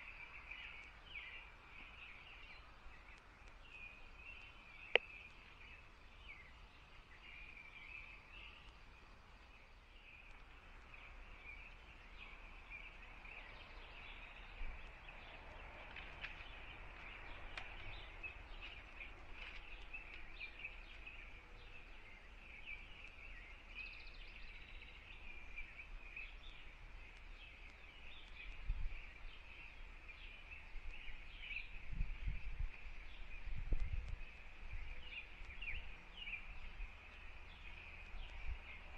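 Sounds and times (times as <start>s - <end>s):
birds singing in woodland: 0.0s - 38.9s.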